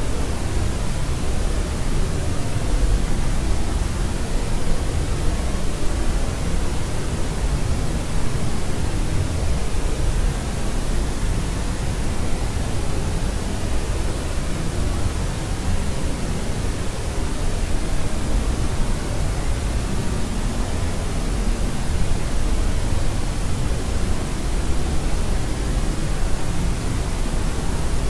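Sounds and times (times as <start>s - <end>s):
white noise rushing hiss: 0.0s - 28.0s.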